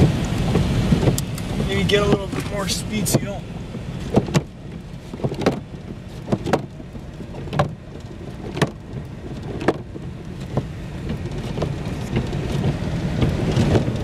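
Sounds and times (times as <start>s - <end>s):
car and tyres rumbling on snow: 0.0s - 14.0s
windshield wipers knocking: 0.0s - 14.0s.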